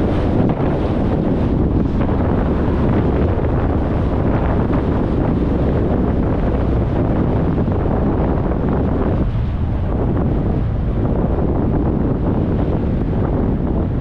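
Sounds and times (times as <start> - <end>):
car road and tyre noise: 0.0 - 14.0
wind rushing over microphone: 0.0 - 14.0.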